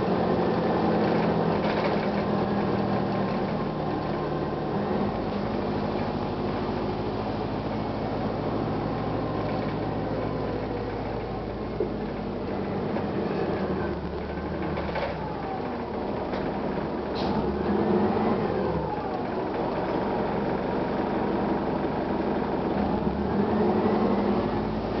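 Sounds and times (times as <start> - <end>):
diesel bus engine running: 0.0 - 25.0
engine whine: 0.0 - 25.0.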